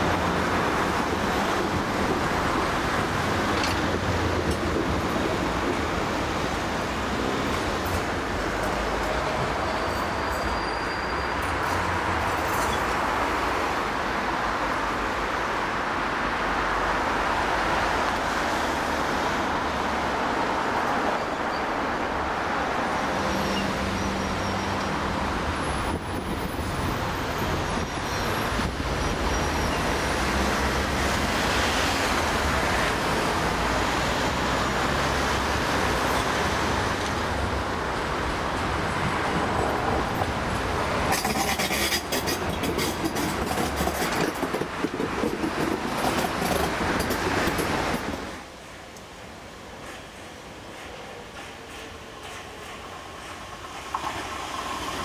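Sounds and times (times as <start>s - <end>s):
cars passing on road: 0.0s - 55.0s
tram moving: 0.0s - 55.0s.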